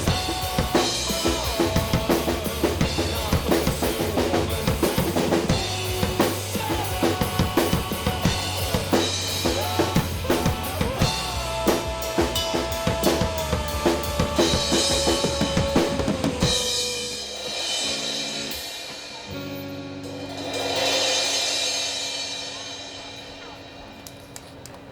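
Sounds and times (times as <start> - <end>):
drum kit pounding: 0.0 - 24.1
live rock band playing: 0.0 - 24.2.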